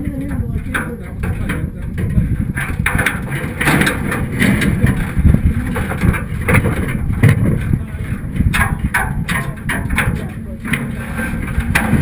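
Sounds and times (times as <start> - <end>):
engine and drivetrain rumble: 0.0 - 12.0
knocks and rattles: 0.0 - 12.0.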